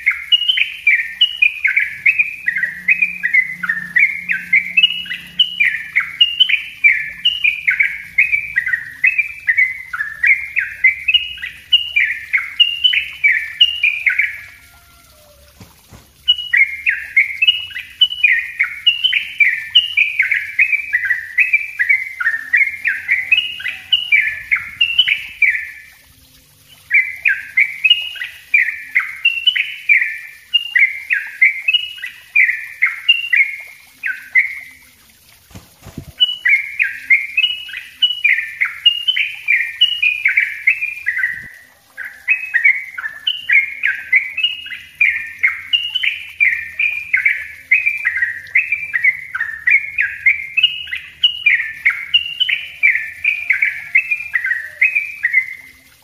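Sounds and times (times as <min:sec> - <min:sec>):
bulbul singing whistled notes: 0:00.0 - 0:56.0.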